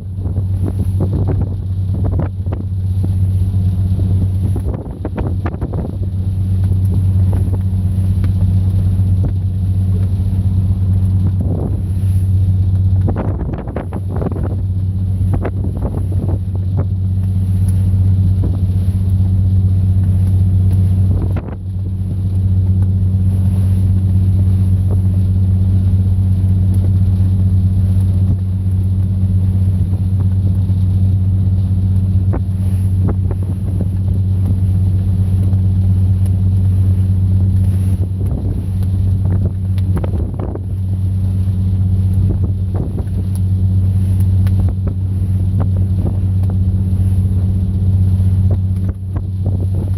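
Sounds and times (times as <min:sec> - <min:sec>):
boat engine deep hum: 0:00.0 - 0:49.9.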